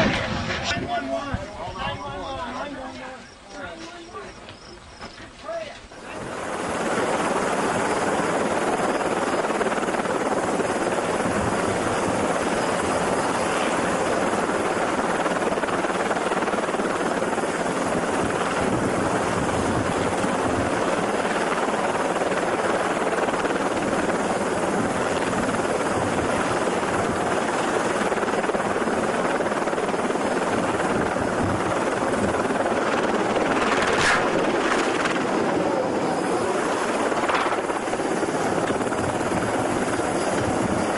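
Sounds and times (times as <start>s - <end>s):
helicopter engine and rotor: 5.8s - 40.9s.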